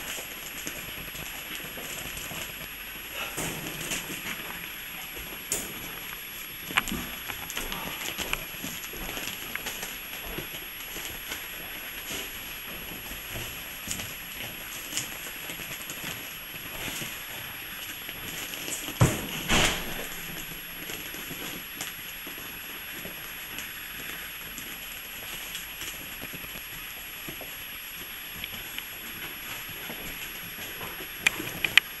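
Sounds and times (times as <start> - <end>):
puppies scrabbling on paper: 0.0 - 32.0.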